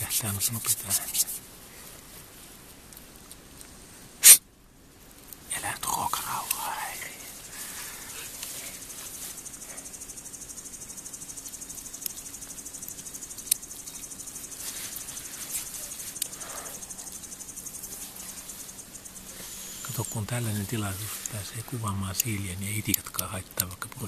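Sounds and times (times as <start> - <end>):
insect chirring trill: 0.0 - 1.8, 5.4 - 24.0.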